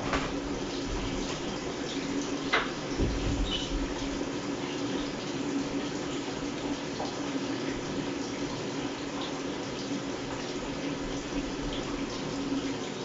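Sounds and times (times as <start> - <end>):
water running into washing machine: 0.0 - 13.0.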